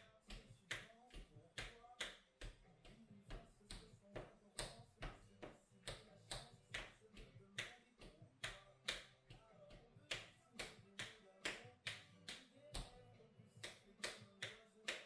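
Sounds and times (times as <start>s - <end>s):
tap shoes on wooden board: 0.3s - 13.0s.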